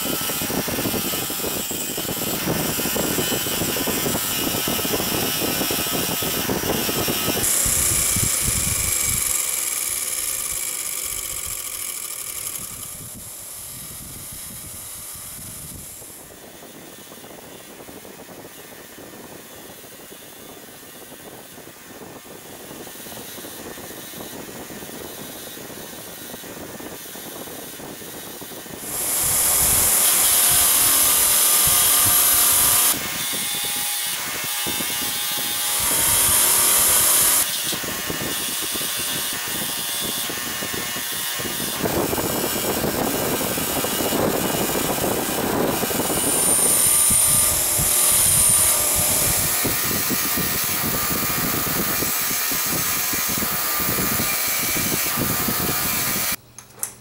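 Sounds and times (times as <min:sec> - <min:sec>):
wire wheel scrubbing metal: 0:00.0 - 0:19.1, 0:28.5 - 0:56.4
bench grinder motor whir: 0:00.0 - 0:56.4.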